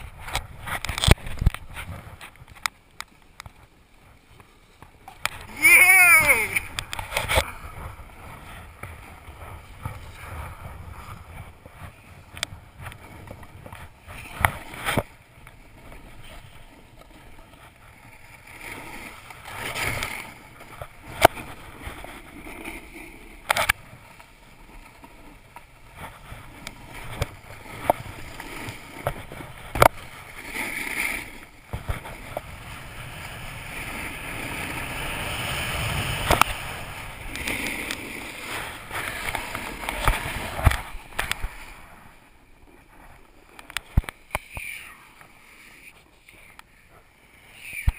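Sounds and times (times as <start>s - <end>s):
snowboard scraping over snow: 0.0s - 47.9s.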